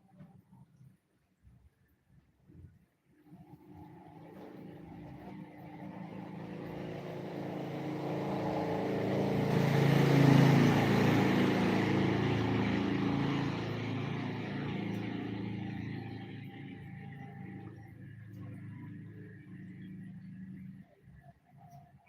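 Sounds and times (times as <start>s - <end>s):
vehicle engine driving past: 3.3s - 22.0s.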